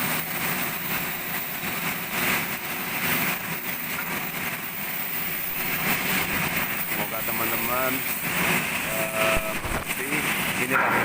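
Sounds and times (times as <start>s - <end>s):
workshop machinery running: 0.0s - 11.0s.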